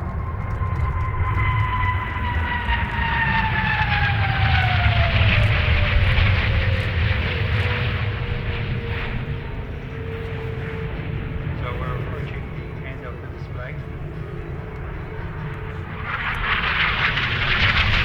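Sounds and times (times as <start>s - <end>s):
jet engine whine: 0.0s - 18.0s
loud jet rumble: 0.0s - 18.0s.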